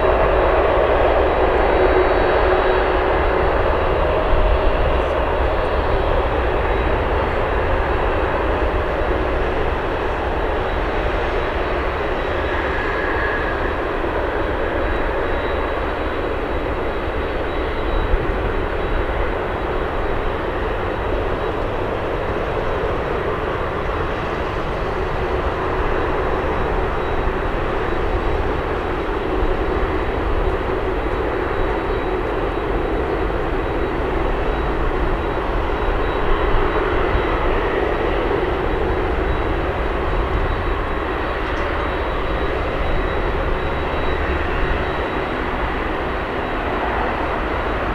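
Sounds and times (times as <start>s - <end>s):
jet engines rushing: 0.0s - 47.9s.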